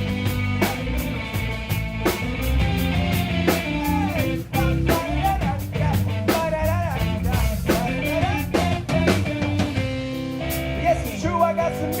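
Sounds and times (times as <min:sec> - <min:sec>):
bass: 0:00.0 - 0:12.0
drum kit steady beat: 0:00.0 - 0:12.0
guitar: 0:00.0 - 0:12.0.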